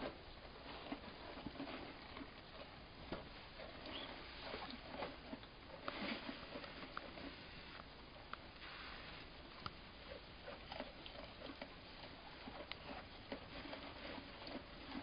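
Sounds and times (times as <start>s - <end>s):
steady low hiss: 0.0s - 14.9s.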